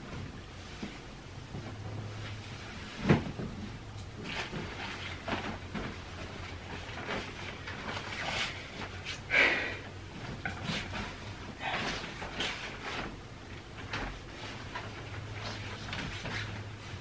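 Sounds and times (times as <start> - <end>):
bedsheets rustling: 0.0 - 17.0
low steady hum: 0.0 - 17.0.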